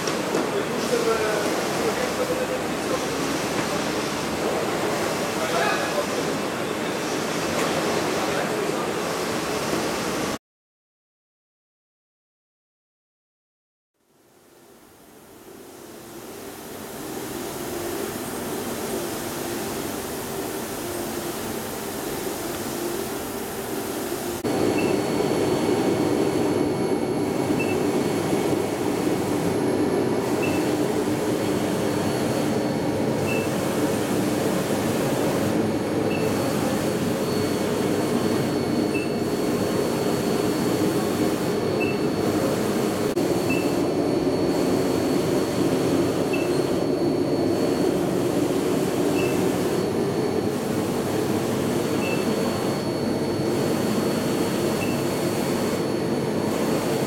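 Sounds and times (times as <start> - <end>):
printer machine hum: 0.0 - 10.4, 15.2 - 57.0.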